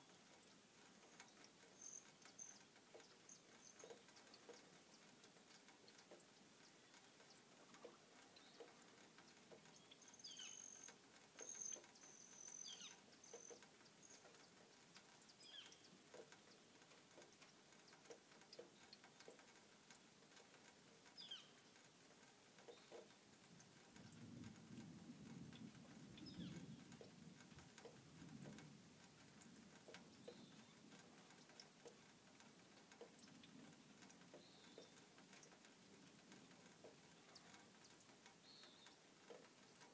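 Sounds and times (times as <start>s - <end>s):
light ticks: 0.0s - 39.9s.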